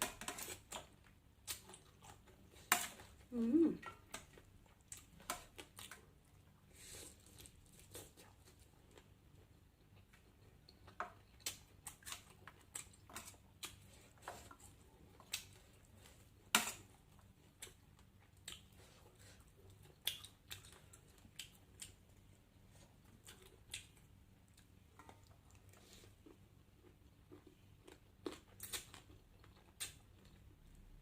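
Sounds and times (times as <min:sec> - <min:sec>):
person chewing crunchy food: 0:00.1 - 0:31.0.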